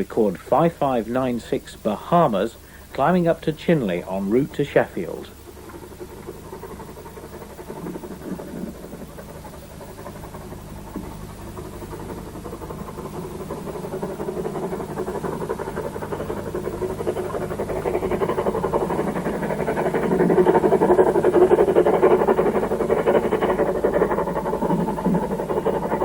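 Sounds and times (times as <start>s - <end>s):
steam locomotive exhaust beats: 0.0s - 26.0s.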